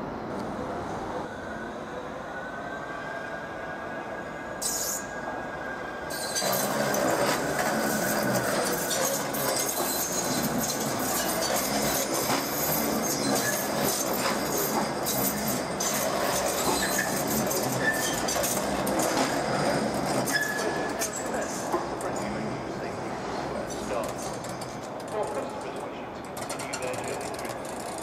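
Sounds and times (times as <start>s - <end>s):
train wheels rumbling on rails: 4.0s - 28.0s.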